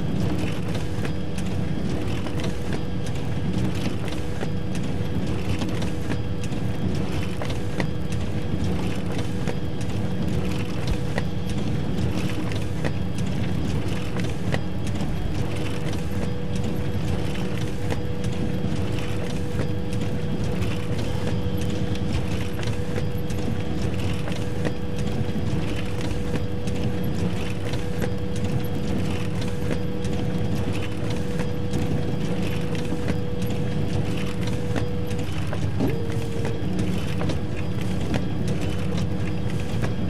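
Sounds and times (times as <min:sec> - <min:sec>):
constant hum: 0:00.0 - 0:40.0
photocopier whirring and clattering: 0:00.0 - 0:40.0.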